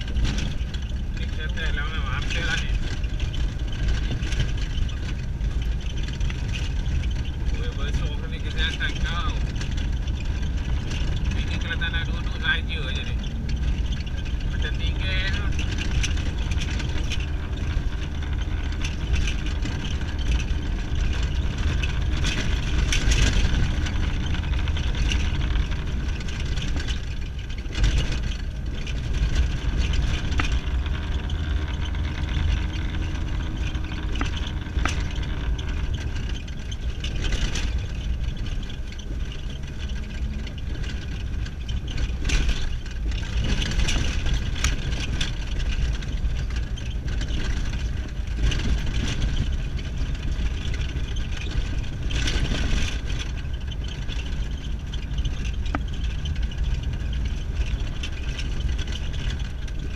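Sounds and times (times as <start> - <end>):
car engine and tyre rumble: 0.0 - 59.9
car knocks and rattles: 0.0 - 59.9.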